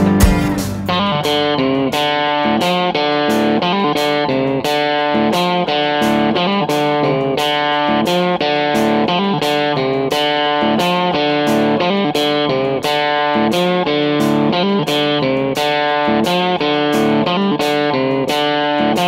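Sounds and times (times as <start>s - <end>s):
guitar picking notes: 0.0s - 19.0s.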